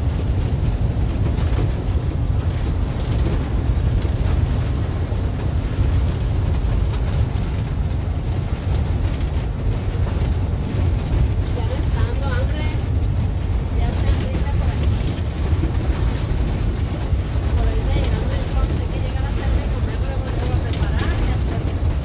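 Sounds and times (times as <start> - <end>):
road and engine rumble in vehicle: 0.0 - 22.0.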